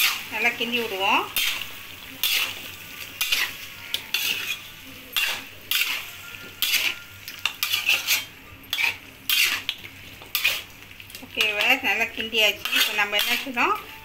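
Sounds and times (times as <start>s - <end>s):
ladle scraping metal wok: 0.0s - 10.8s, 12.5s - 13.7s.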